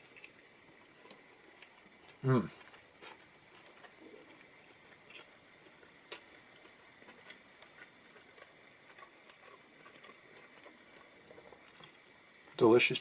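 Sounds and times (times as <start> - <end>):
person chewing fried food: 0.0 - 12.6.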